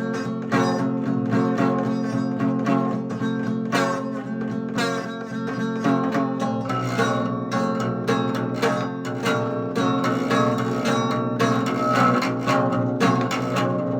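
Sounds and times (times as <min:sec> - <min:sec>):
strummed guitar music: 0:00.0 - 0:13.9.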